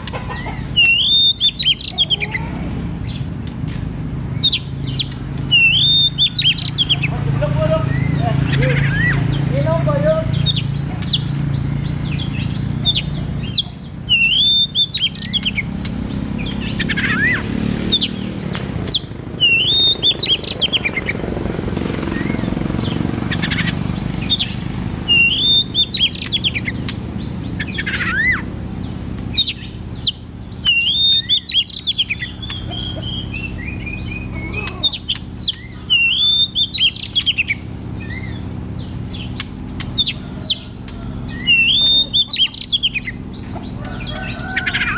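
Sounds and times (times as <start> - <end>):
songbird whistling and chattering: 0.0 - 3.6, 4.2 - 44.9.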